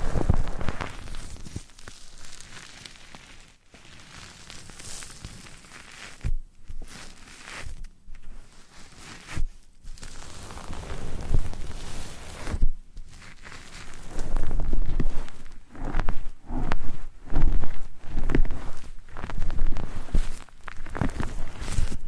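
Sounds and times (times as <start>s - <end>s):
rustling and scratching on microphone: 0.0s - 22.0s.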